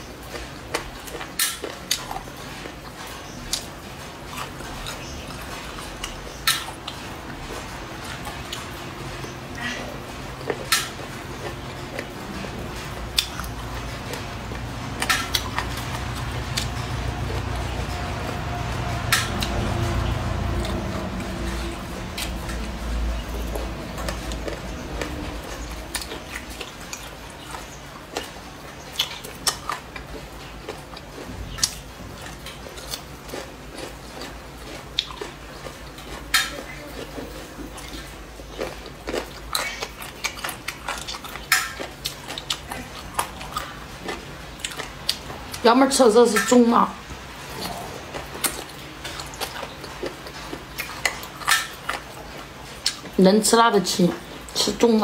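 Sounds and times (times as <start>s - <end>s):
chewing: 0.0s - 53.2s.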